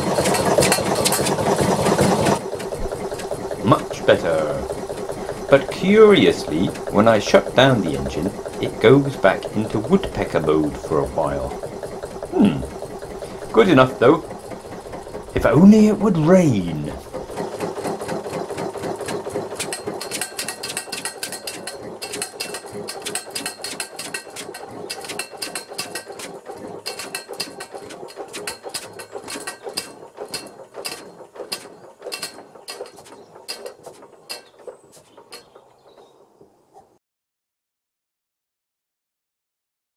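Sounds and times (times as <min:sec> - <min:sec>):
engine running down: 0:00.0 - 0:36.5.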